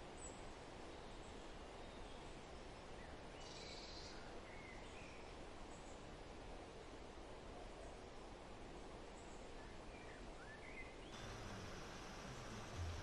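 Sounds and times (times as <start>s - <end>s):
outdoor nature ambience hiss: 0.0s - 13.0s.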